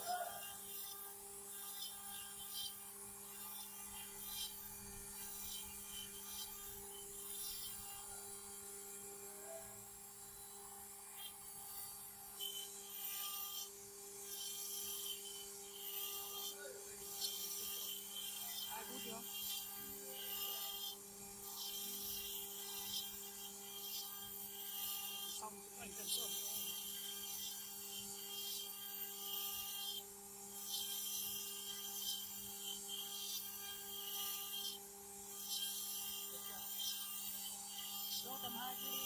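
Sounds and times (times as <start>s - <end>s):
carving bit scraping stone: 0.0s - 39.0s
motor hum: 0.0s - 39.0s.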